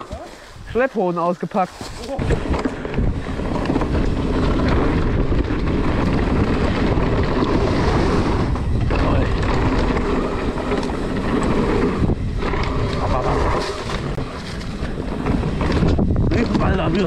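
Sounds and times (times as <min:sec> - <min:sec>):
wind rushing over microphone: 0:00.0 - 0:17.0
bike clacks and rattles: 0:01.8 - 0:17.0
tyres rumbling over dirt: 0:01.8 - 0:17.0.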